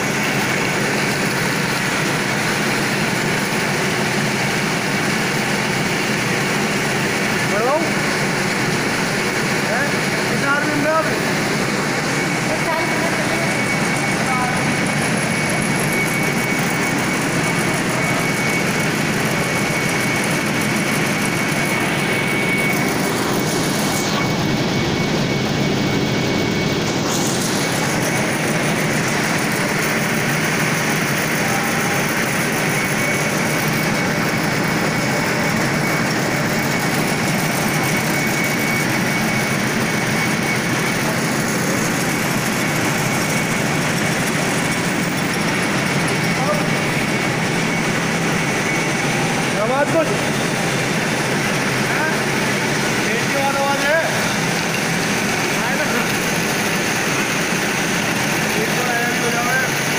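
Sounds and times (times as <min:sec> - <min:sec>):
rotating machinery noise: 0:00.0 - 0:59.9
thin high whine: 0:04.7 - 0:59.9.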